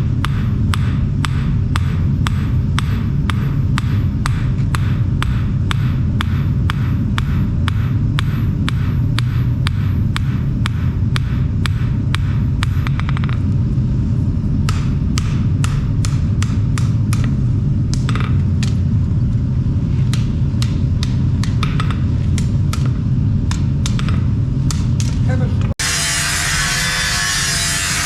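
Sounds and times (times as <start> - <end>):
hammer striking forged steel: 0.0 - 13.5, 14.7 - 18.8, 20.1 - 25.2
low rumble: 0.0 - 26.0.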